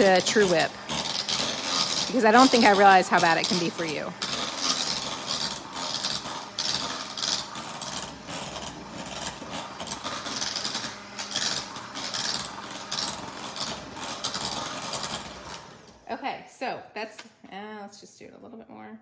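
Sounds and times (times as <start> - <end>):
electric hand mixer whipping: 0.0 - 16.0.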